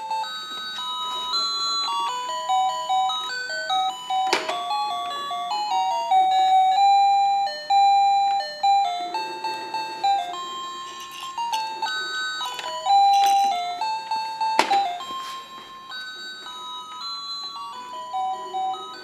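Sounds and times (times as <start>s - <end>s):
electronic chiming toy tune: 0.0s - 19.0s.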